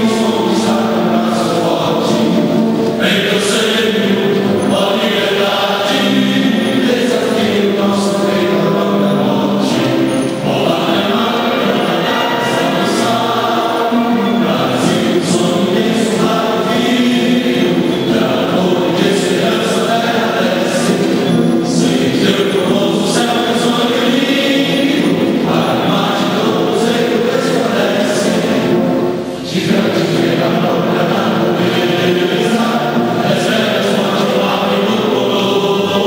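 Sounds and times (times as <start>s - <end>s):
choir singing an anthem: 0.0s - 36.0s
instrumental accompaniment: 0.0s - 36.0s.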